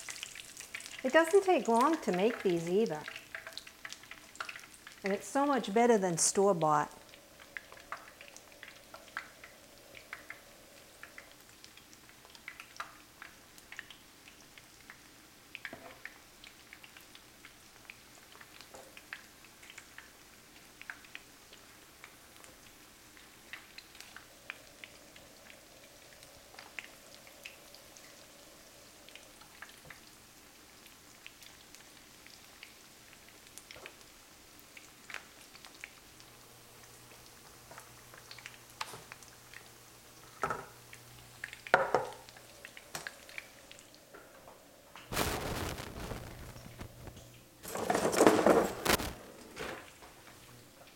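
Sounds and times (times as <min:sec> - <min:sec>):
hot oil crackling and popping: 0:00.0 - 0:50.9.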